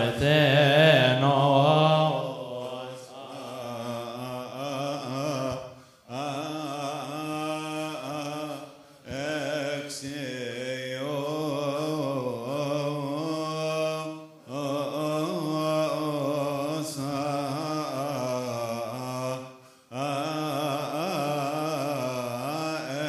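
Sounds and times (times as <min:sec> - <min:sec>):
men chanting: 0:00.0 - 0:23.0.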